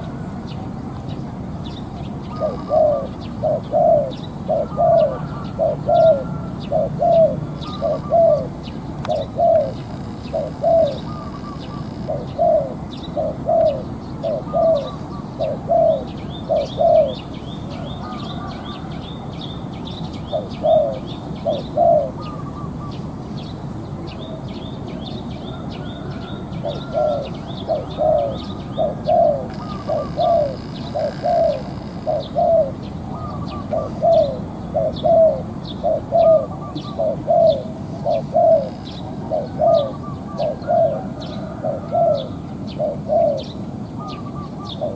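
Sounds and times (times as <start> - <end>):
small birds chirping faintly: 0.0 - 44.9
dove cooing: 2.0 - 19.3, 20.1 - 23.2, 25.5 - 44.9.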